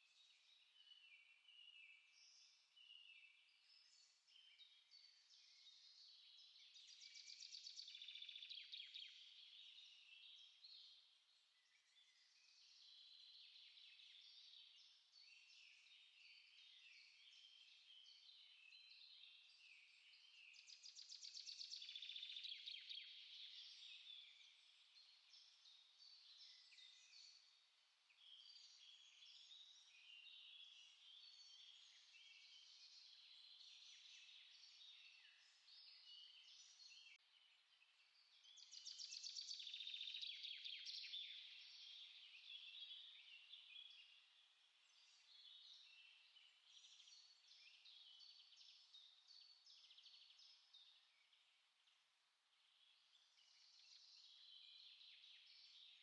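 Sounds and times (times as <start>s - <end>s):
songbirds chirping chorus: 0.0s - 56.0s.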